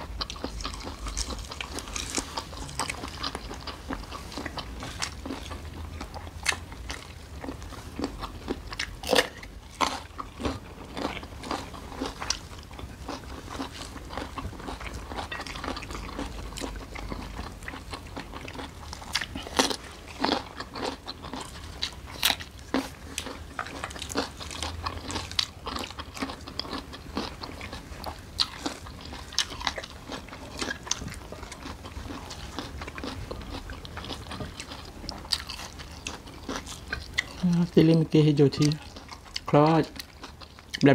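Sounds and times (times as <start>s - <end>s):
chewing: 0.0s - 40.9s.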